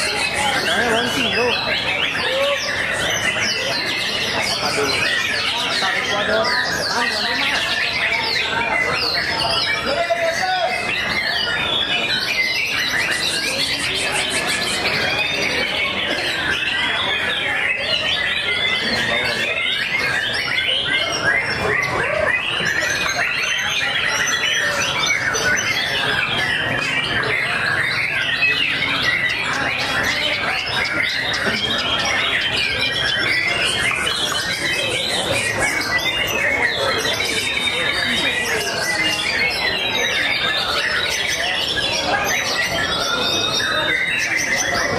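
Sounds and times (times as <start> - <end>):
birds singing whistles and warbles: 0.0 - 44.9
fast high bird trill: 0.0 - 44.9.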